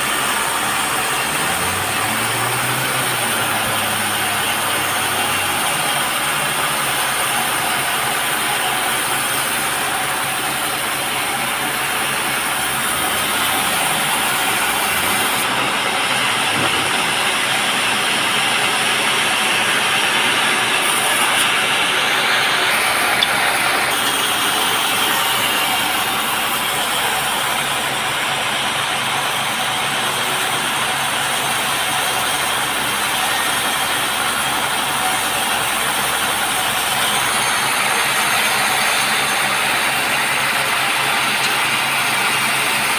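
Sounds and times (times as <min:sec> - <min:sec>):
sawmill saw cutting log: 0:00.0 - 0:42.9.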